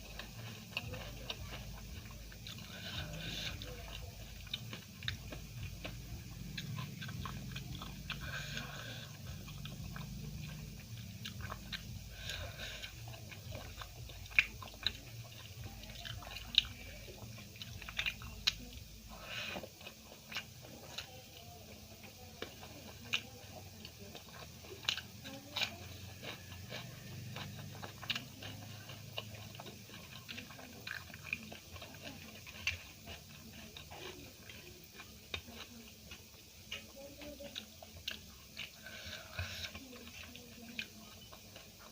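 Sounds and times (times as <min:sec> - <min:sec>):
chewing: 0:00.0 - 0:41.9
mouth clicks and crunches: 0:00.0 - 0:41.9.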